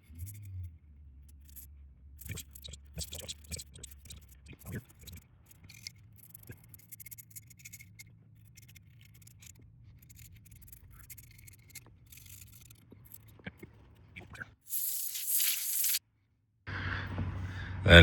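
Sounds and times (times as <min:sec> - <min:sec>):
light clicks and scratches: 0:00.0 - 0:16.0.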